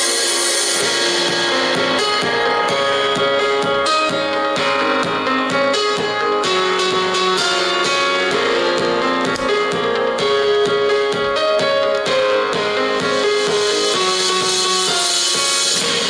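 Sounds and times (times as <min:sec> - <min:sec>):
instrumental music with drums: 0:00.0 - 0:16.0.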